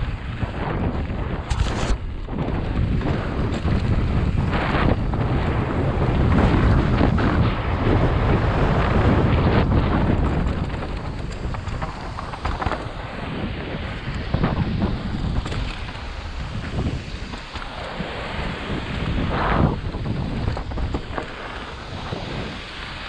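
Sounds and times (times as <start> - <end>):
bike tyres rumbling on dirt: 0.0 - 23.0
wind buffeting microphone: 0.0 - 23.0.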